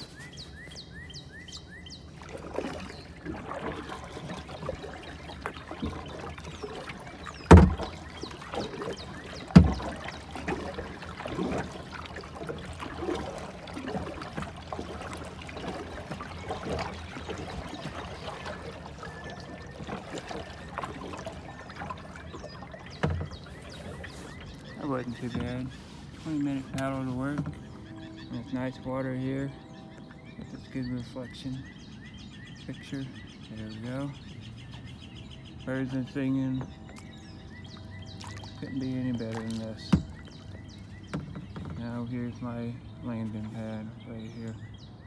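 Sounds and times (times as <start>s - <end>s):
bird chirping: 0.0s - 45.0s
paddle splashing water: 0.0s - 45.0s.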